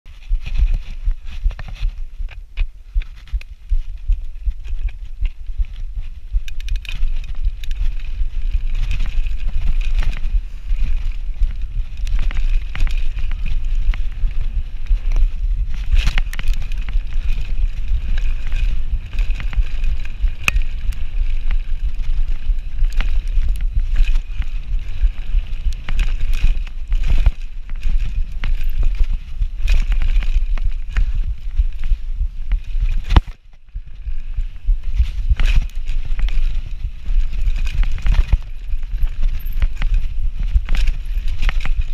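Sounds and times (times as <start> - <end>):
bike clicks and rattles: 0.1 - 41.9
tyres running over dirt: 0.1 - 41.9
wind rumble on microphone: 0.1 - 41.9.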